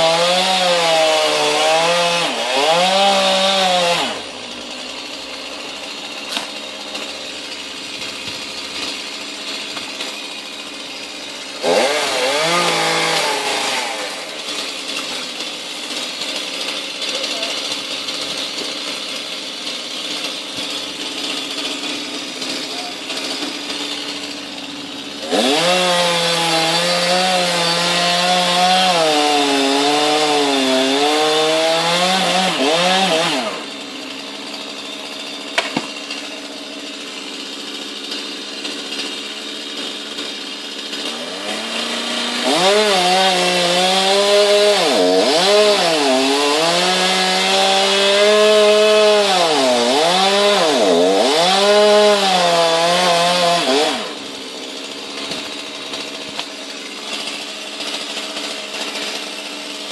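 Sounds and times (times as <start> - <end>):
chainsaw cutting tree trunk: 0.0 - 59.9.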